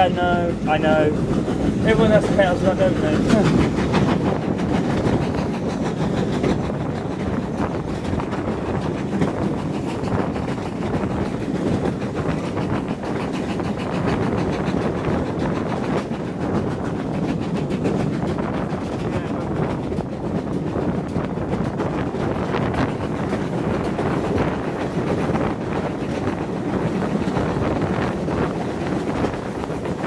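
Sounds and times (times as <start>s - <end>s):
train wheels clattering on rails: 0.0s - 30.0s.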